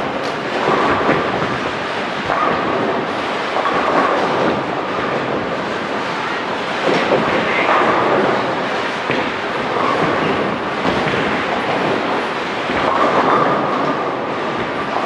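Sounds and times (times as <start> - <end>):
bowling balls rolling: 0.0 - 15.0
bowling pins clattering: 0.0 - 15.0.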